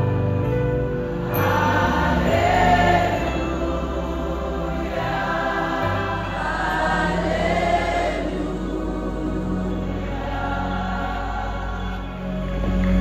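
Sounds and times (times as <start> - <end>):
instrumental backing with bass: 0.0 - 13.0
choir singing held notes: 1.0 - 13.0.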